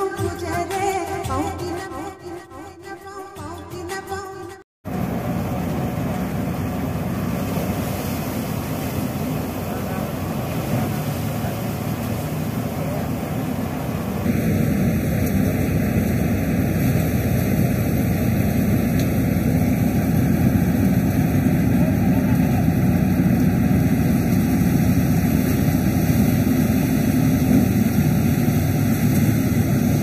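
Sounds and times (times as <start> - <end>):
threshing machine drone: 4.9 - 30.0.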